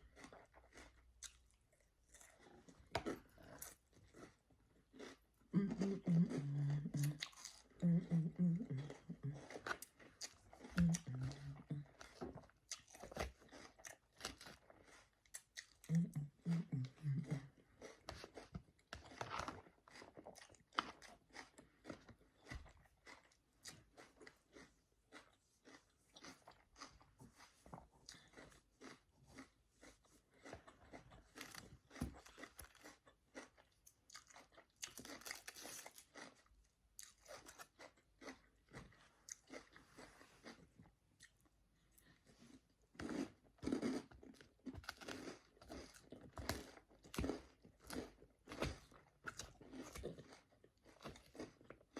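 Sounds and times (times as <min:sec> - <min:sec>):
chewing crisp salad: 0:00.0 - 0:51.9.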